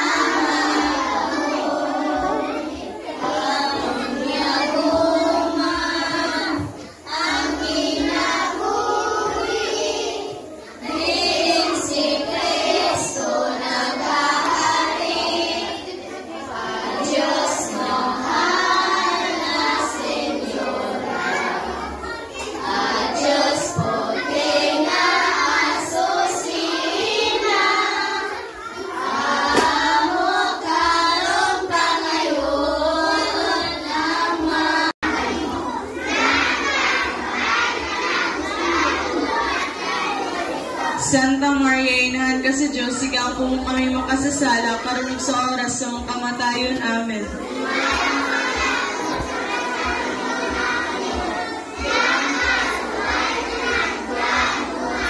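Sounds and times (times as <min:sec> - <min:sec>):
children singing in unison: 0:00.0 - 0:41.6, 0:42.4 - 0:55.0.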